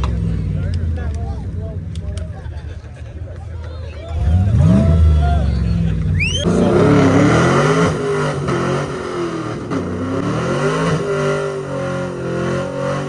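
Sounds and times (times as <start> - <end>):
car engine revving: 0.0 - 2.8, 4.0 - 13.0.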